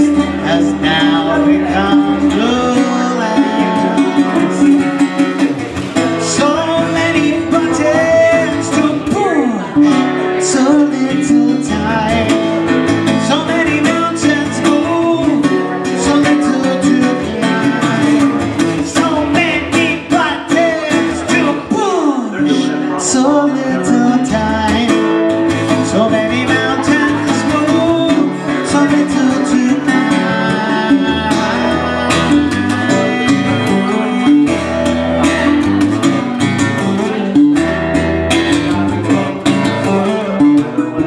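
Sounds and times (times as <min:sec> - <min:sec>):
man singing: 0:00.0 - 0:41.0
plucked bass guitar: 0:00.0 - 0:41.0.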